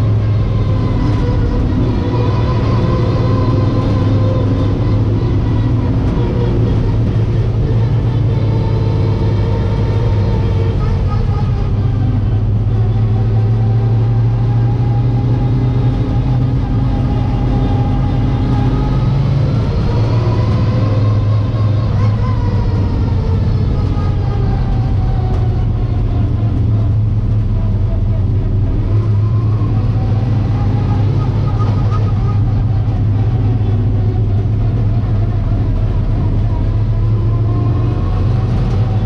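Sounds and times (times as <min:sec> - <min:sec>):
racing car engine under load: 0:00.0 - 0:39.0.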